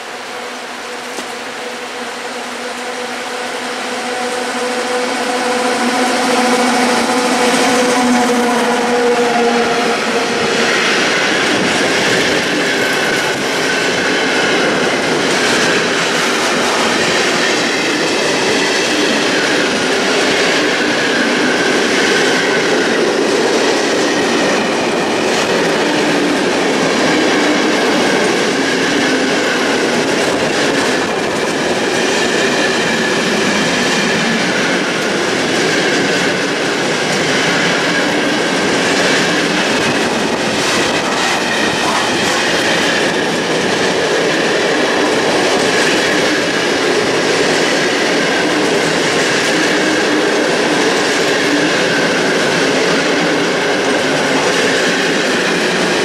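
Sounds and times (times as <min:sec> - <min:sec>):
train wheels rumbling and clattering: 0:00.0 - 0:56.0.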